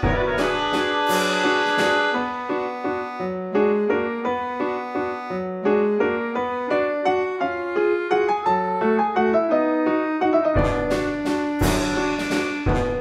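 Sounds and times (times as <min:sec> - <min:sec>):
piano-like keyboard melody: 0:00.0 - 0:13.0.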